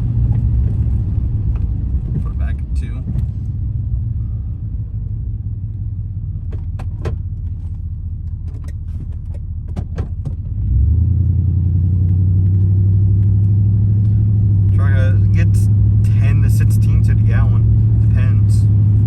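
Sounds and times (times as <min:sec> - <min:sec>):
engine and road drone: 0:00.0 - 0:19.0.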